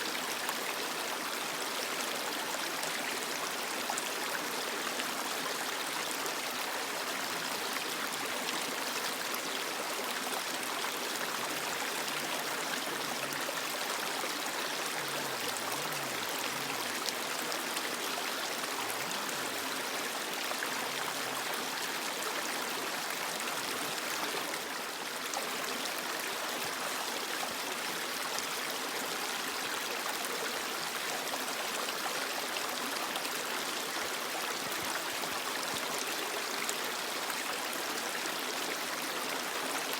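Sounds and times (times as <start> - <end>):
creek flowing: 0.0 - 39.9.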